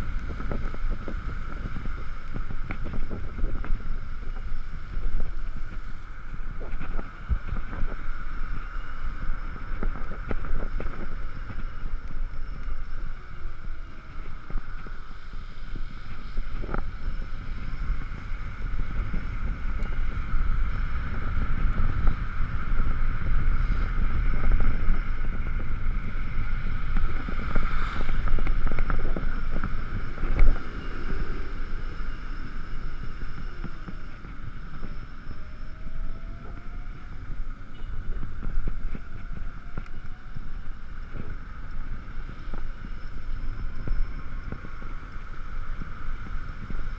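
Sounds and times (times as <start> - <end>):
steady high whine: 0.0 - 46.9
tyre noise on wet road: 0.0 - 46.9
wind buffeting microphone: 0.0 - 46.9.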